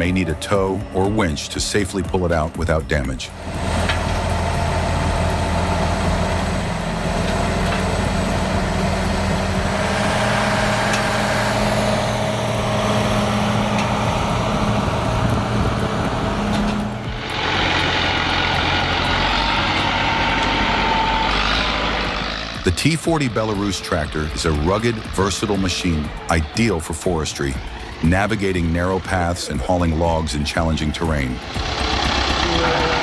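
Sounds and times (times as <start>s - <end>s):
hissy engine sound: 0.0s - 33.0s
tractor engine running under load: 0.0s - 33.0s.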